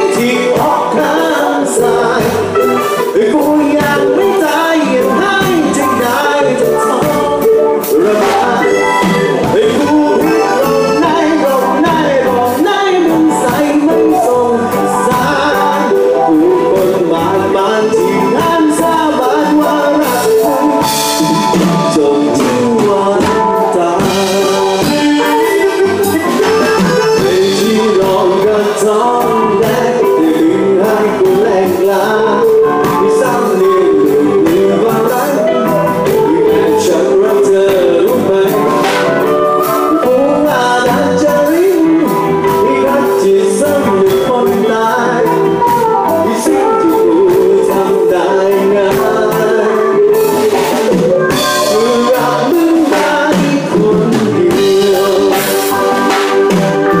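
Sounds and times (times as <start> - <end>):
drum kit: 0.0 - 57.0
electric guitars: 0.0 - 57.0
person singing: 0.0 - 57.0.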